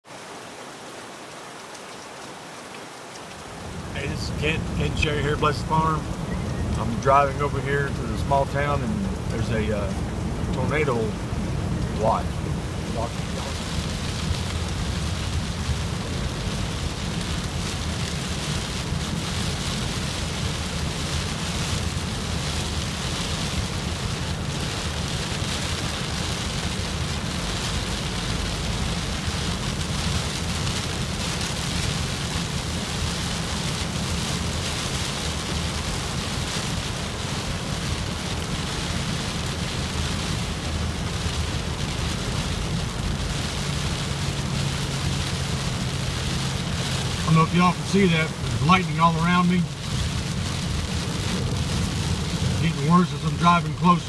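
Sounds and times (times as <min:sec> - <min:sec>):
rain drumming on car: 0:00.1 - 0:54.0
low continuous rumble: 0:03.6 - 0:54.0.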